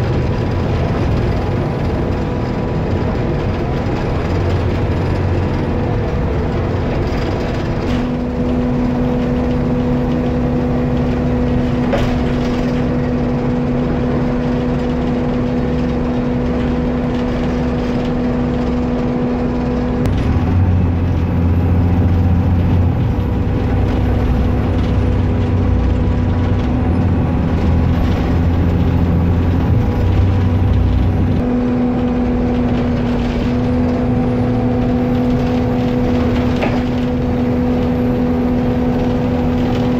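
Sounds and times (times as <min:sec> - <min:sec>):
bus engine hum: 0:00.0 - 0:39.9
deep engine rumble: 0:00.0 - 0:39.9.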